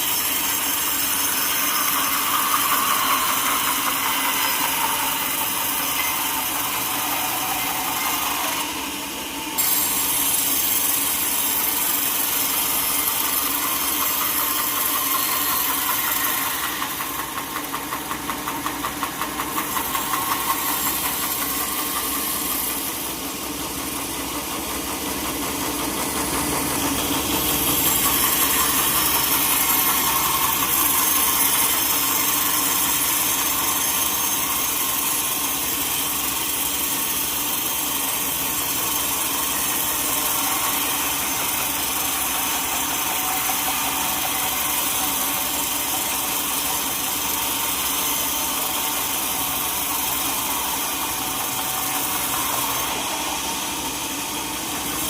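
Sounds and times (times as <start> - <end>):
sawmill machinery droning: 0.0 - 55.0.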